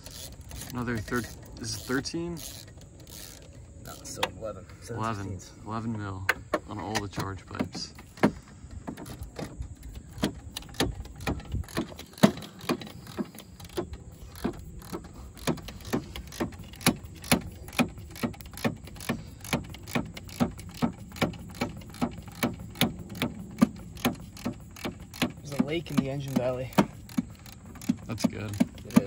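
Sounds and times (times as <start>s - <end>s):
ratchet clicking: 0.0s - 4.4s, 6.8s - 29.0s.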